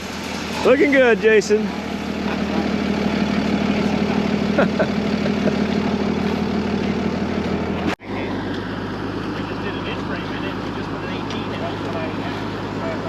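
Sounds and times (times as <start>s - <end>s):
heavy vehicle engine humming: 0.0s - 13.0s.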